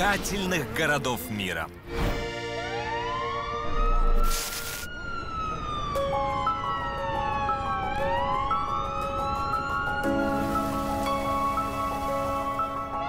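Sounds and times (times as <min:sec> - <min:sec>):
two-tone siren: 0:02.4 - 0:13.0
wailing siren: 0:02.4 - 0:13.0.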